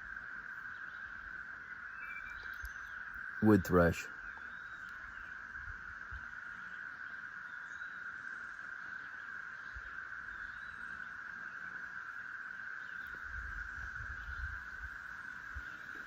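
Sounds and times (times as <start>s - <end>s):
faint bird chirps: 0.0s - 11.9s, 12.7s - 16.0s
cicadas droning: 0.0s - 16.0s.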